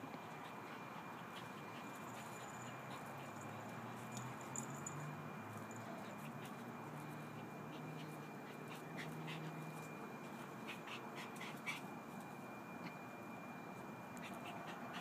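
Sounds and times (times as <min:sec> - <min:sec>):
puppy panting and snuffling: 0:00.0 - 0:15.0.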